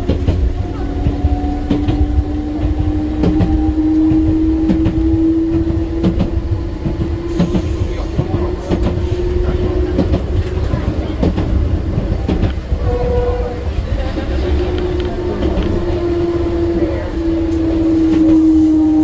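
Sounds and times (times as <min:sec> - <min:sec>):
wheels clacking over rail joints: 0:00.0 - 0:16.6
electric train running: 0:00.0 - 0:19.0.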